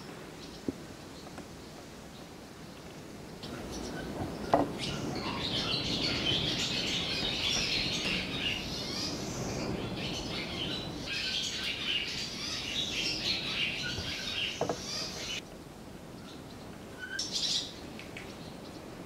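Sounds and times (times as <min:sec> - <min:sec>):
small birds chirping: 0:00.3 - 0:15.4, 0:16.1 - 0:19.0.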